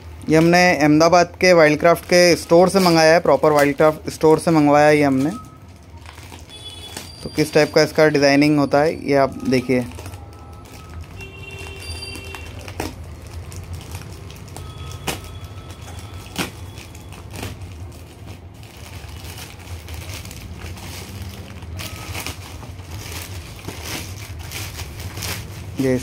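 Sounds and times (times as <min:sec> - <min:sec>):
plastic crinkling and rustling: 0:00.0 - 0:26.0.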